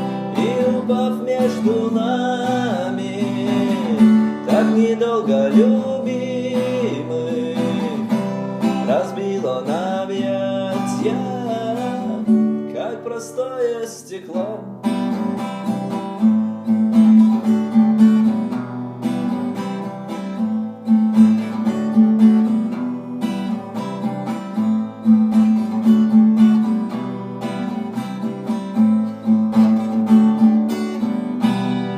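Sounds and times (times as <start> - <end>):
strummed string instrument: 0.0 - 13.7, 14.4 - 31.9.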